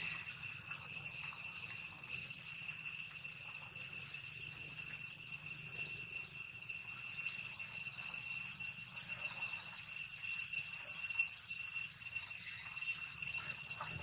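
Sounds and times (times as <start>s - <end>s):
high-pitched ringing drone: 0.0s - 14.0s.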